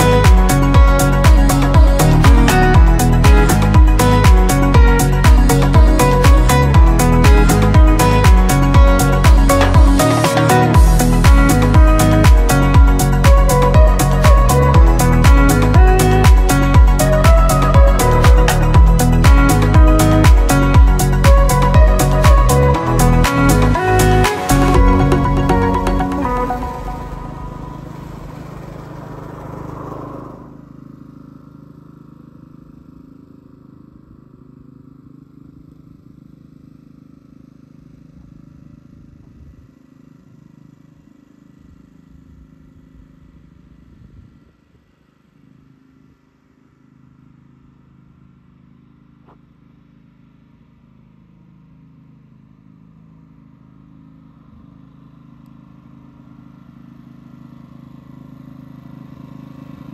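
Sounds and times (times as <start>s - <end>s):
mower engine running: 0.0s - 59.9s.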